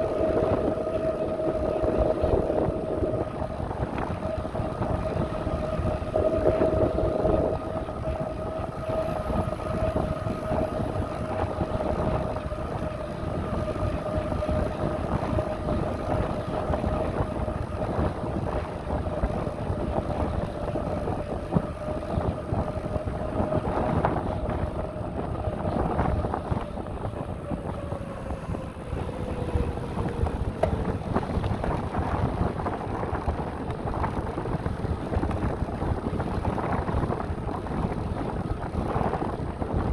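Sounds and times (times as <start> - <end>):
bicycle rumble: 0.0 - 39.9
steady whine: 0.0 - 39.9
wind buffeting microphone: 0.0 - 39.9.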